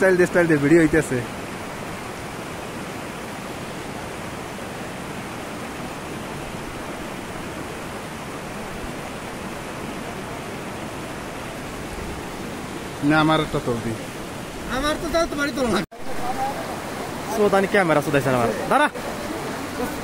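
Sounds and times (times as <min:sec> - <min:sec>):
water flowing over rocks: 0:00.0 - 0:20.0.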